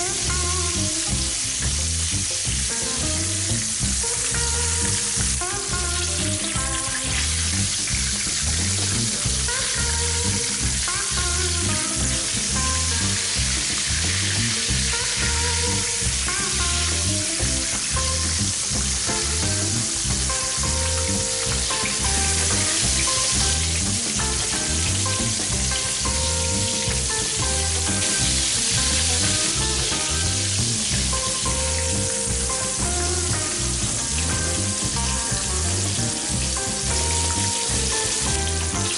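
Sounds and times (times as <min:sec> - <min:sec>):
background music with steady beat: 0:00.0 - 0:38.9
meat sizzling in hot oil: 0:00.0 - 0:38.9.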